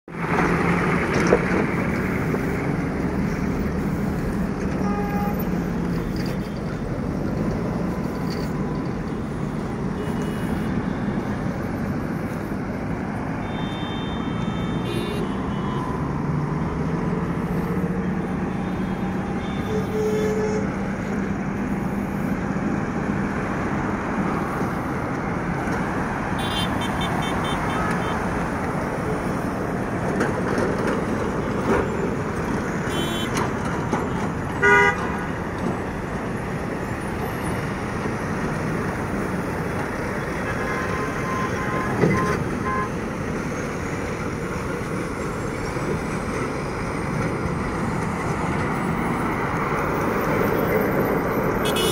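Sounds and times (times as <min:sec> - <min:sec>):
diesel engine driving: 0:00.1 - 0:51.9.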